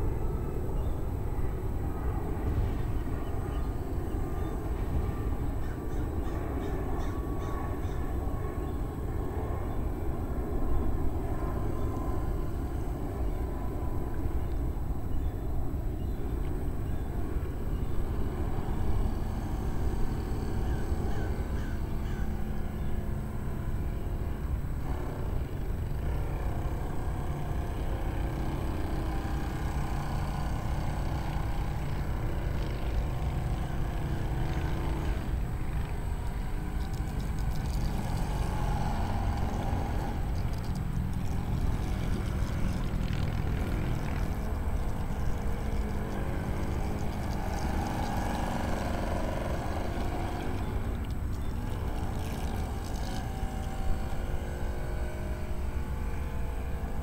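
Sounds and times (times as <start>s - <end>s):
model boat motor whine: 0.0s - 57.0s.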